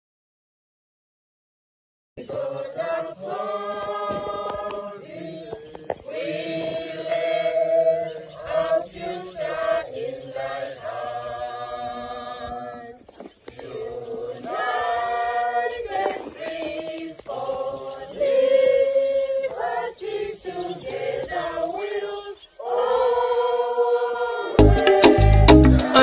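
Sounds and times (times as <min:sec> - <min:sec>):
group singing in unison: 0:02.2 - 0:26.0.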